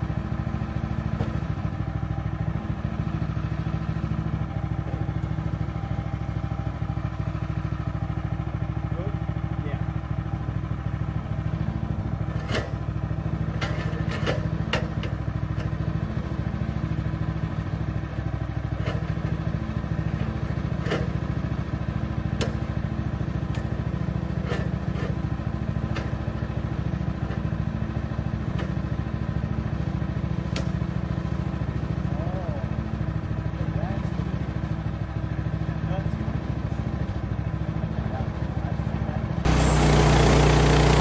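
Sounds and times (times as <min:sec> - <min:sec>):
gasoline engine running: 0:00.0 - 0:41.0.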